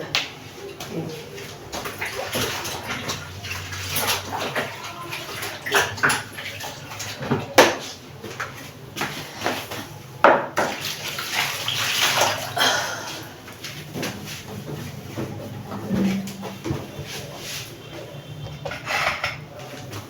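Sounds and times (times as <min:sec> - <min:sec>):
water splashing in a basin: 0:00.7 - 0:17.8.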